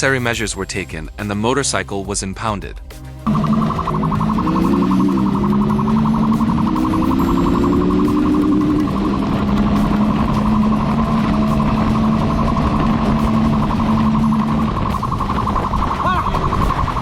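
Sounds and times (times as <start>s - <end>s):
road and wind rumble: 3.2s - 17.0s
pulsing police siren: 3.3s - 17.0s
vehicle engine at speed: 3.3s - 17.0s.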